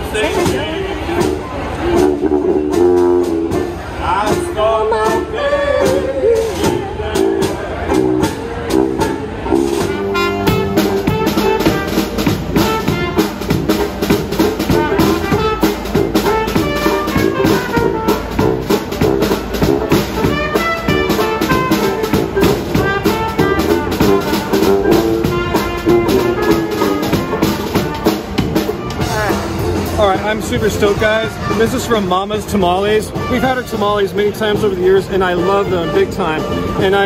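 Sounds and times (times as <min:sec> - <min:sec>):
jazz band playing: 0:00.0 - 0:37.0.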